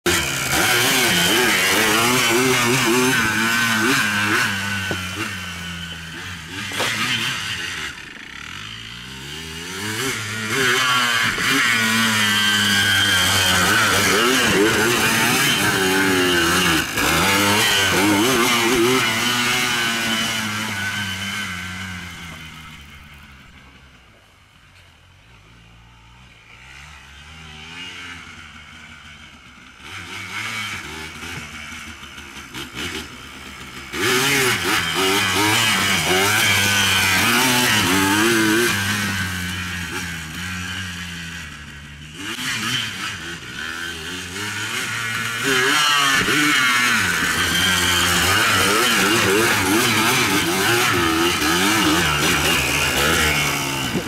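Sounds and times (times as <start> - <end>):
quad bike engine revving: 0.0 - 24.2, 25.2 - 54.0.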